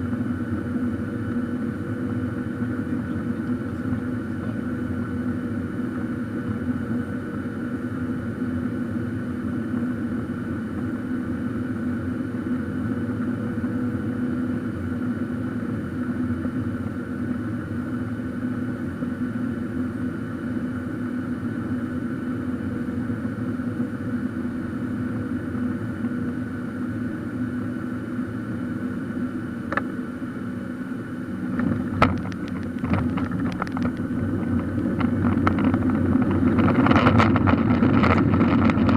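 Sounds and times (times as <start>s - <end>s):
airplane cabin hum: 0.0s - 38.9s.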